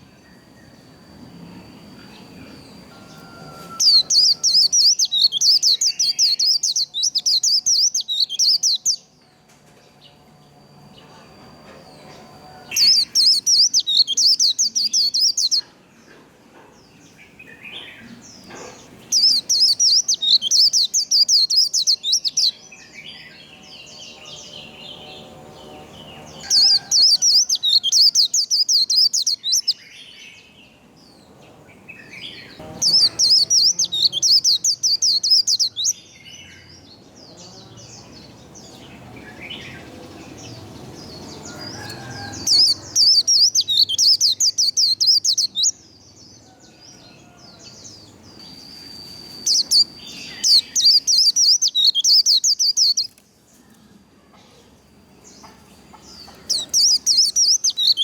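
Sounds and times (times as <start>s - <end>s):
bird twittering song: 0.0s - 9.2s, 10.5s - 15.7s, 16.8s - 46.6s, 47.2s - 53.2s, 55.3s - 58.0s.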